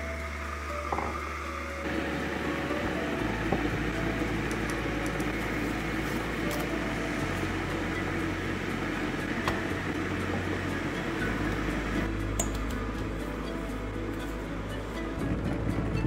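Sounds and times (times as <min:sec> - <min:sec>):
appliance whirring hum: 0:00.0 - 0:16.0.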